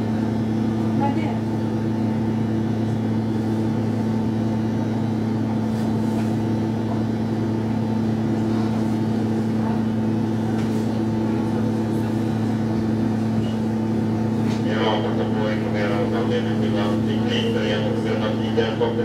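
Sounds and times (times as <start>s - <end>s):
subway car hum: 0.0s - 19.0s.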